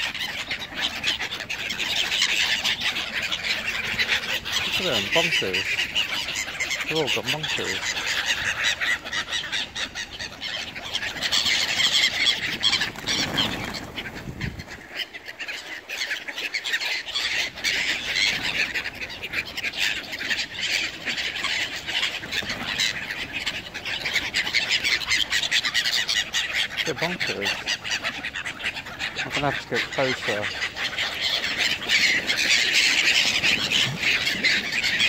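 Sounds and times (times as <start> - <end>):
gulls calling: 0.0 - 35.0
wings flapping: 0.1 - 35.0.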